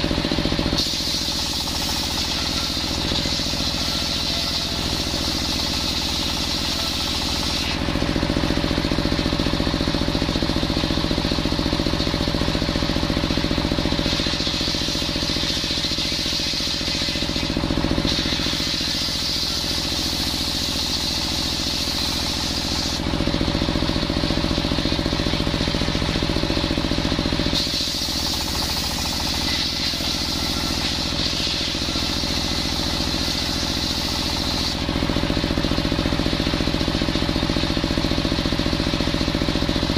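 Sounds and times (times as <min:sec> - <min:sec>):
circular saw cutting wood: 0:00.0 - 0:39.9
engine drone: 0:00.0 - 0:39.9.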